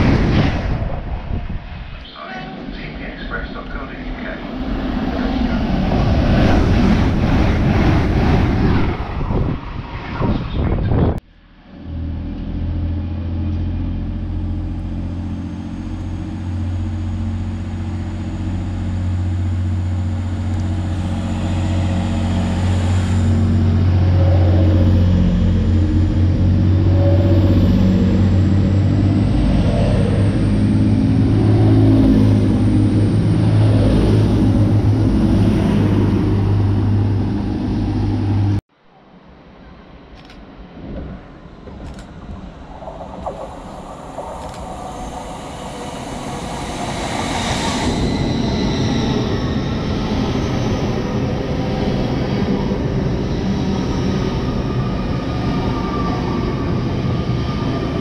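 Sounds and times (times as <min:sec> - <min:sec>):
diesel train engines droning: 0:00.0 - 0:09.8, 0:11.2 - 0:58.0
distant train rumble: 0:00.0 - 0:58.0.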